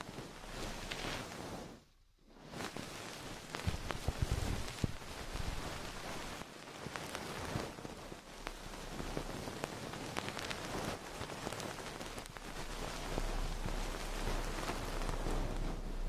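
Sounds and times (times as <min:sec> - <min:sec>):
crackling patter of clicks: 0:00.0 - 0:16.0
steady hiss: 0:00.0 - 0:16.0.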